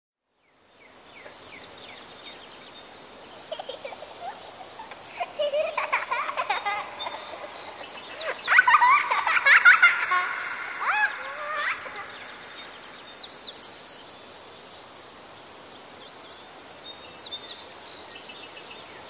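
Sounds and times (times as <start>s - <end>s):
birds singing: 0.6s - 19.0s
high insect chirr: 0.7s - 19.0s.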